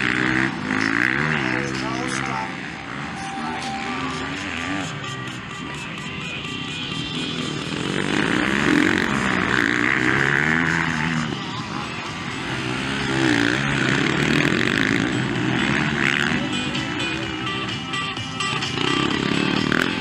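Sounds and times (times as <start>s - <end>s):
motocross bikes revving: 0.0s - 20.0s.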